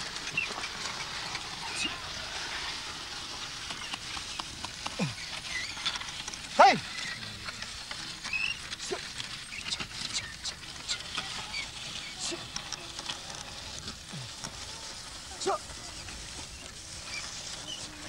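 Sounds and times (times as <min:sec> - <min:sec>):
crackling and ticking: 0:00.1 - 0:18.0.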